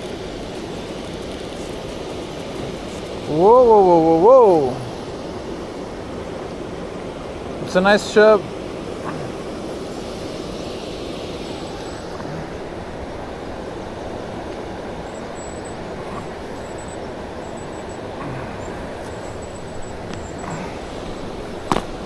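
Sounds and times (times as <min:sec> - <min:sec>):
creek water rushing over weir: 0:00.0 - 0:22.0.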